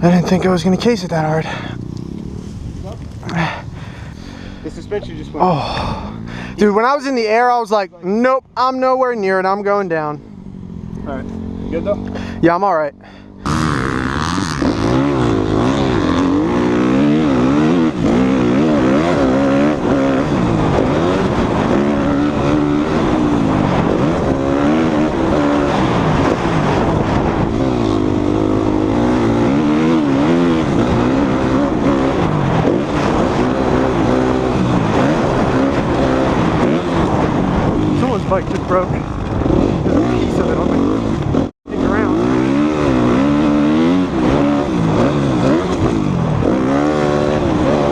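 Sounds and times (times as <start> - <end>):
motorcycle engine revving: 0.0 - 7.4, 8.0 - 47.9.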